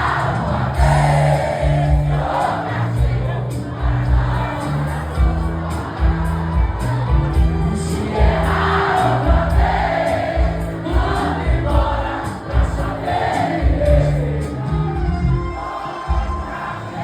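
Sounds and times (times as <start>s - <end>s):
bass beat: 0.0s - 16.5s
live band music: 0.0s - 17.0s
several voices singing: 0.0s - 17.0s.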